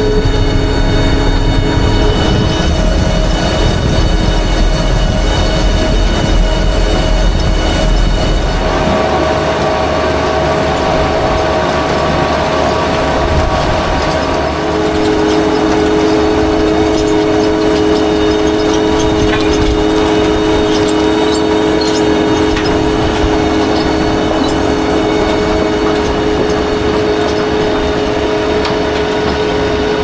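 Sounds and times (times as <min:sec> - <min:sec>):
heavy farm machinery drone: 0:00.0 - 0:30.0
machinery whining tones: 0:00.0 - 0:30.0.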